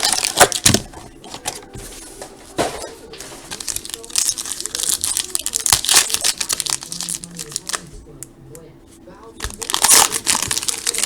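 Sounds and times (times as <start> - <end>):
foil wrappers crinkling and tearing: 0.0 - 8.0, 9.4 - 11.0.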